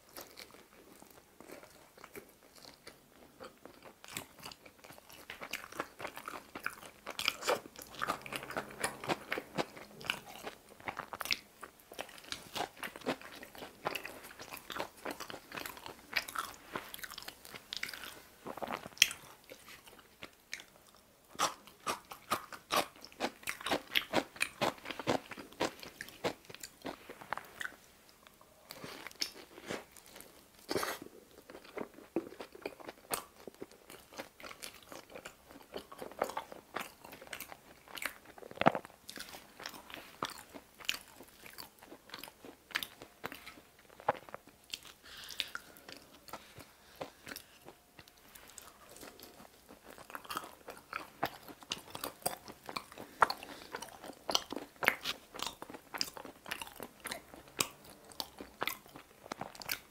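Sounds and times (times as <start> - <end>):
person chewing pizza: 0.0 - 59.9.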